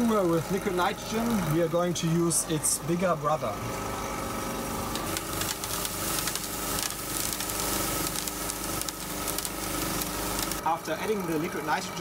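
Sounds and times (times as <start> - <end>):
liquid nitrogen hissing and crackling: 0.0 - 12.0
vacuum pump humming: 0.0 - 12.0.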